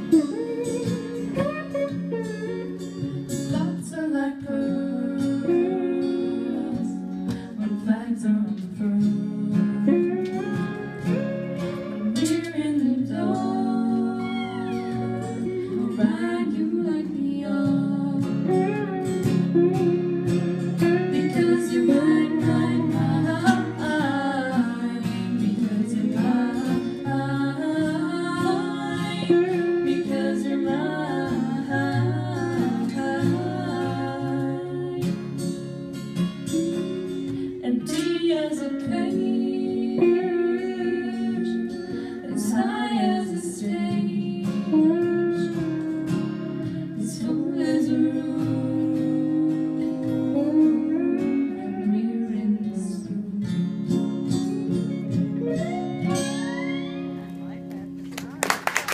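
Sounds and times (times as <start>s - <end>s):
women singing: 0.0s - 35.6s, 36.5s - 54.5s
electric guitar: 0.0s - 58.9s
strummed acoustic guitars: 0.0s - 58.9s.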